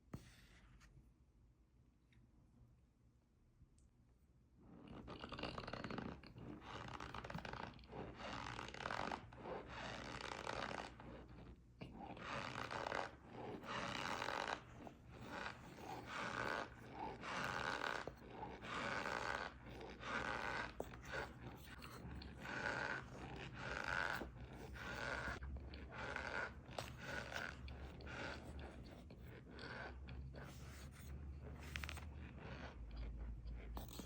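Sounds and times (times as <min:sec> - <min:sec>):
cornstarch crunching and squeaking: 0:04.8 - 0:34.0.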